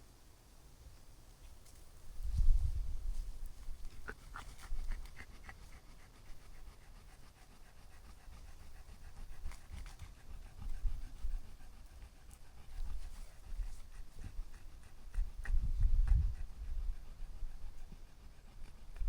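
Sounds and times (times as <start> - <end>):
low rumble on the microphone: 2.0 - 19.0
dog panting quickly: 3.1 - 19.0.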